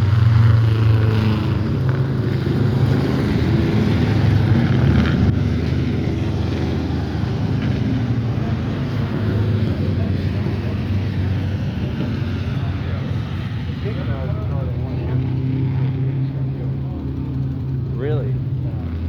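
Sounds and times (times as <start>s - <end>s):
race car engine running: 0.0s - 19.0s.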